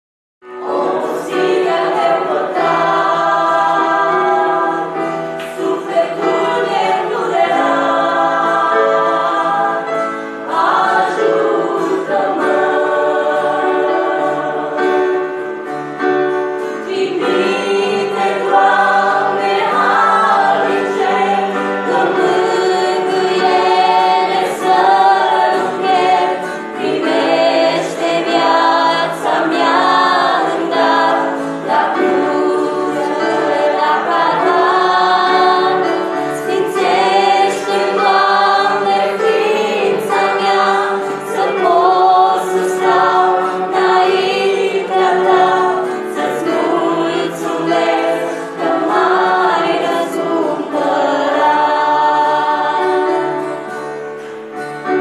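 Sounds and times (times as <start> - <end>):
keyboard accompaniment: 0.4 - 55.0
women singing a hymn: 0.5 - 55.0.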